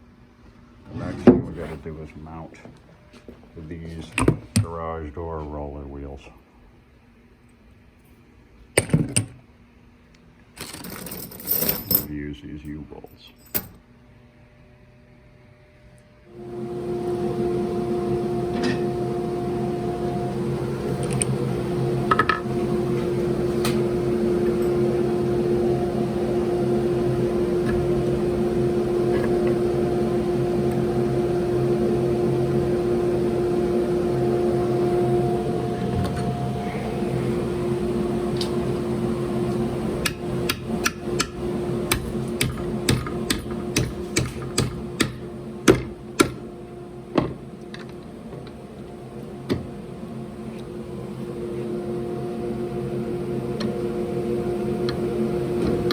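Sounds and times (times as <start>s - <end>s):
steady hum with held tones: 11.0s - 55.9s.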